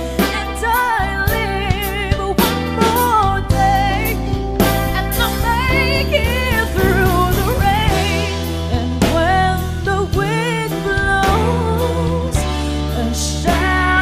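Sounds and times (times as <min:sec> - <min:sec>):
band accompaniment: 0:00.0 - 0:14.0
woman singing pop ballad: 0:00.0 - 0:14.0.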